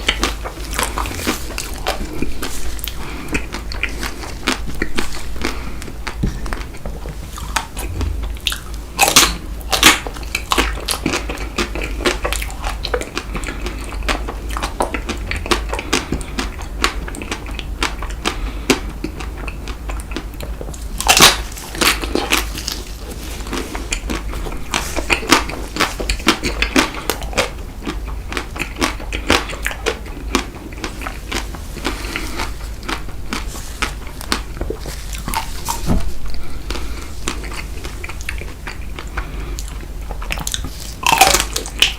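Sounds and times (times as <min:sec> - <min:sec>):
biting and chewing: 0:00.0 - 0:41.9.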